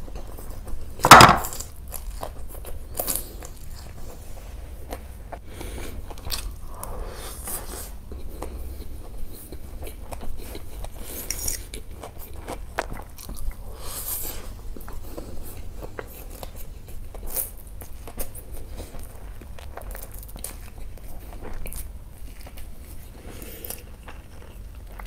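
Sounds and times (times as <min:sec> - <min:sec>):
person chewing and crunching food: 0:00.0 - 0:25.0.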